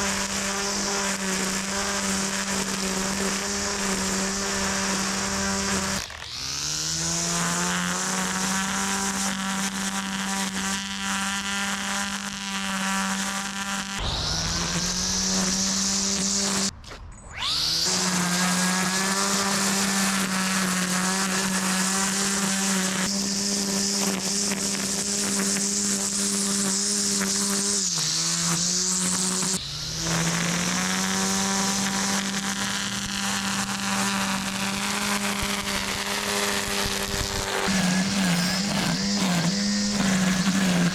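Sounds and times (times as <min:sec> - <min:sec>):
electric string trimmer whining: 0:00.0 - 0:40.9.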